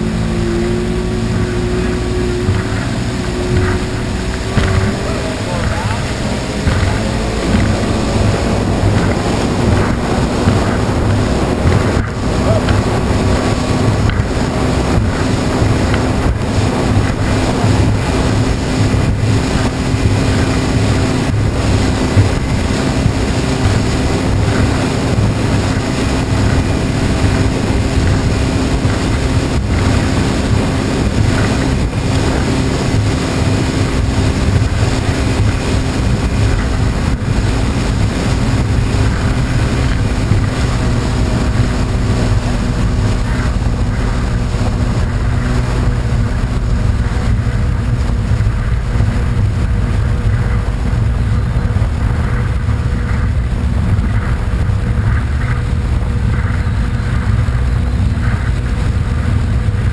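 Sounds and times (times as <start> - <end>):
outboard motor running: 0.0 - 59.9
water rushing past hull: 0.0 - 59.9
wind buffeting microphone: 0.0 - 59.9.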